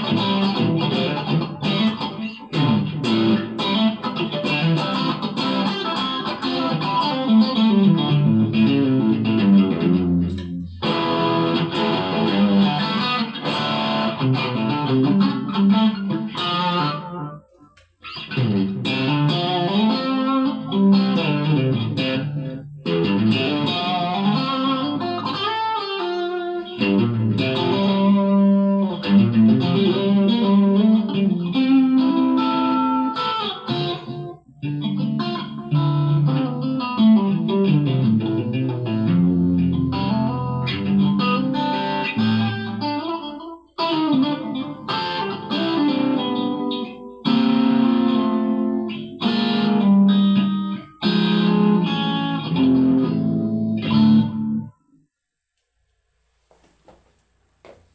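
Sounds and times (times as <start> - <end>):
electric guitar playing: 0.0 - 54.8.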